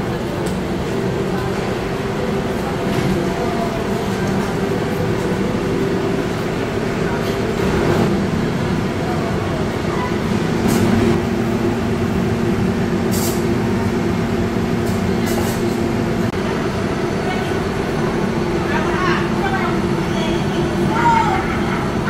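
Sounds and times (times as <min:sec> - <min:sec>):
ventilation fans droning: 0:00.0 - 0:22.0.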